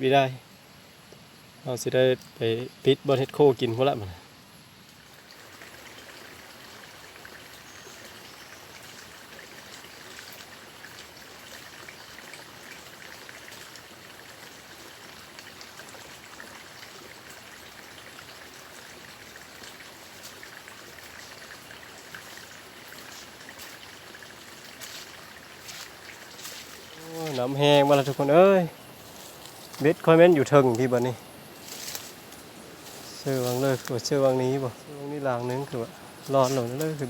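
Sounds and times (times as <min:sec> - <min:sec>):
stream water flowing: 0:00.7 - 0:37.0.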